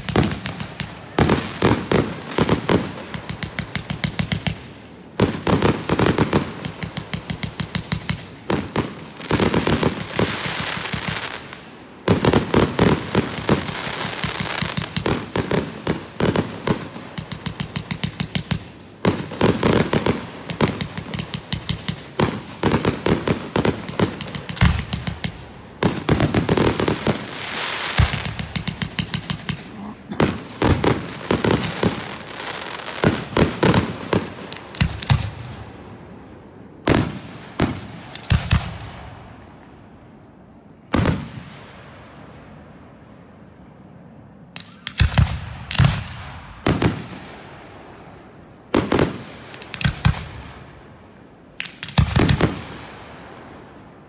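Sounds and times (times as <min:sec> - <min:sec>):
fireworks launching and bursting: 0:00.0 - 0:40.0, 0:40.8 - 0:42.2, 0:44.5 - 0:53.9.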